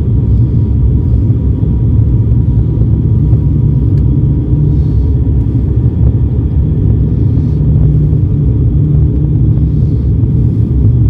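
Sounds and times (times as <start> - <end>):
turboprop cabin drone: 0.0 - 11.0.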